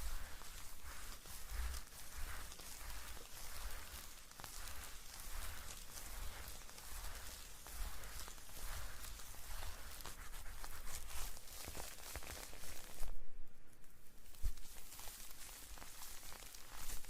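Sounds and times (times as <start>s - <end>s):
fine crackling and rustling: 0.0s - 17.0s.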